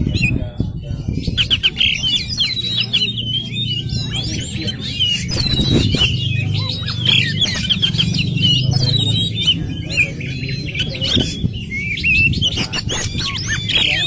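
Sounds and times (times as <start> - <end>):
bird singing whistles and trills: 0.0 - 14.0.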